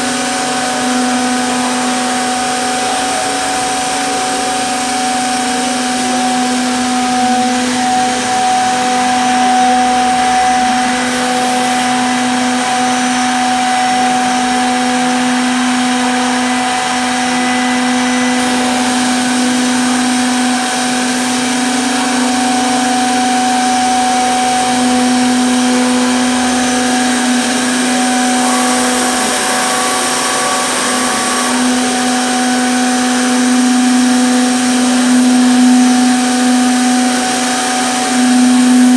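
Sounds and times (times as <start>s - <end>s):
machine motors whining: 0.0s - 38.9s.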